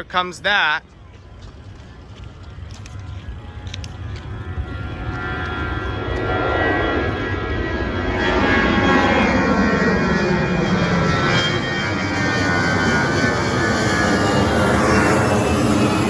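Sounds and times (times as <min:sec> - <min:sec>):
airliner engines roaring: 0:00.0 - 0:16.0
engine whine sliding down: 0:02.3 - 0:16.0.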